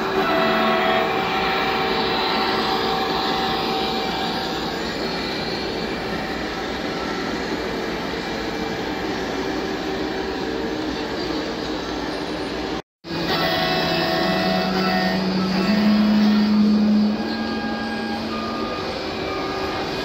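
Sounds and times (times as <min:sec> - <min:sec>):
model train rolling: 0:00.0 - 0:20.0.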